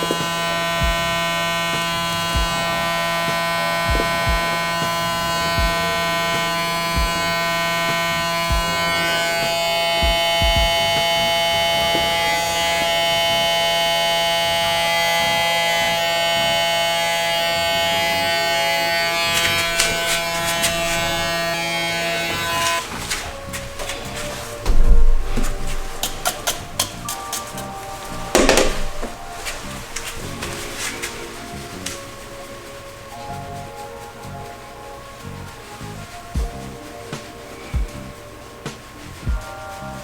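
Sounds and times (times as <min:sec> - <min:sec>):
small electric motor whining: 0:00.0 - 0:34.5.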